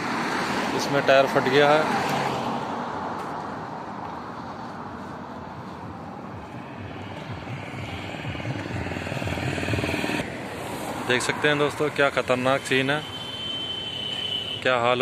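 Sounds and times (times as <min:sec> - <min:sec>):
vehicle engine approaching: 0:00.0 - 0:12.8
highway traffic rumble: 0:00.0 - 0:15.0.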